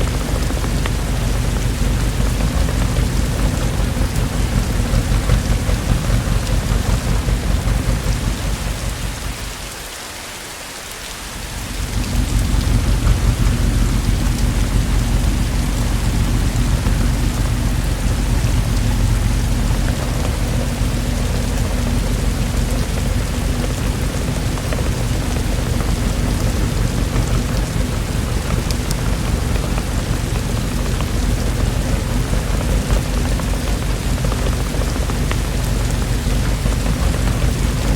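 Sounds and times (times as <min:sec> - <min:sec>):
thunder rumbling: 0:00.0 - 0:09.9, 0:11.2 - 0:37.9
heavy rain: 0:00.0 - 0:37.9.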